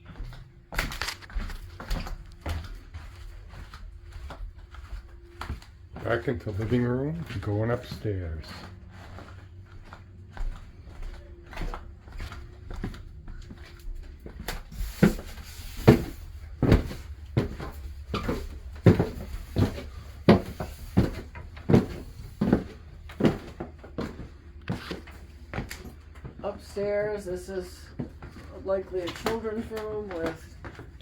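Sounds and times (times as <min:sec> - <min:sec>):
footsteps on wooden stairs: 0:00.0 - 0:31.0.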